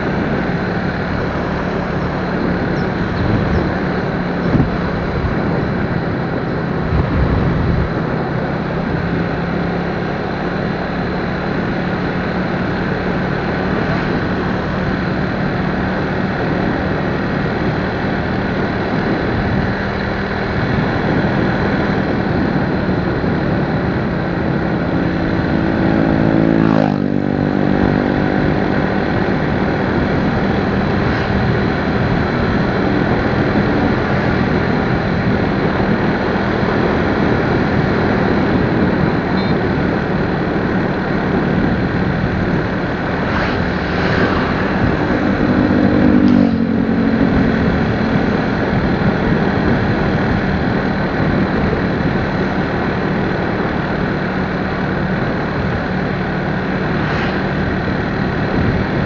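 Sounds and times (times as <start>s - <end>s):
motorcycle engine droning: 0.0s - 59.0s
rushing wind and road noise: 0.0s - 59.0s.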